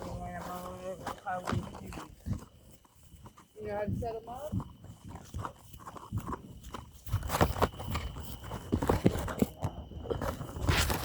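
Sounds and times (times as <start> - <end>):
scuffs and knocks of handling: 0.0 - 11.0.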